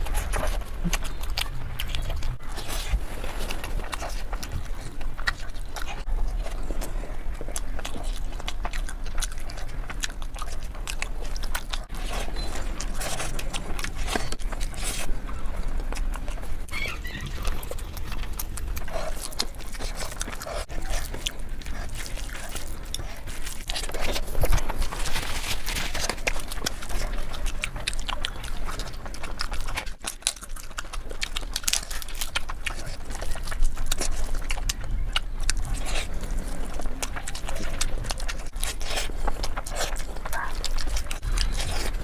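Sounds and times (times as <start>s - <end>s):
mouth clicks: 0.0s - 42.0s
wet chewing and lip smacking: 0.0s - 42.0s.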